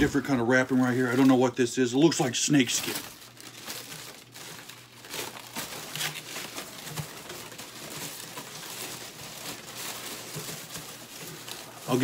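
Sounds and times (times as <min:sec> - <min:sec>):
paper wrap rustling and crinkling: 0:00.0 - 0:12.0.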